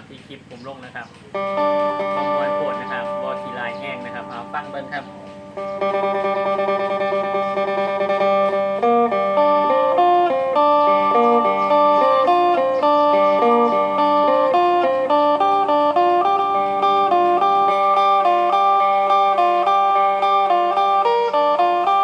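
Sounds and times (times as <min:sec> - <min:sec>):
amplified plucked lute melody: 0:01.2 - 0:22.0.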